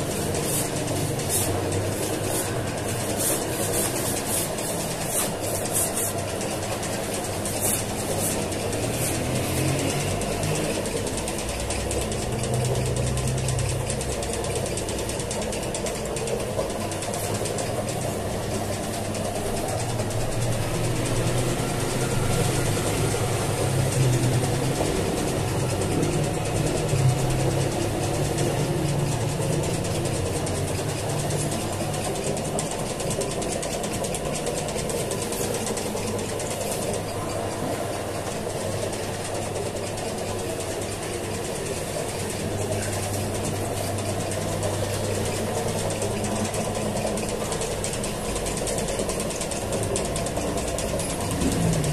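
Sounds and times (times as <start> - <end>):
dough mixer motor humming: 0.0 - 51.9.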